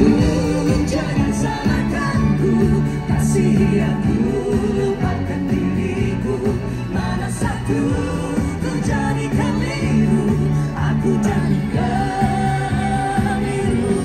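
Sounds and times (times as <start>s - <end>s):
bass line: 0.0s - 14.0s
live pop song with singers: 0.0s - 14.0s.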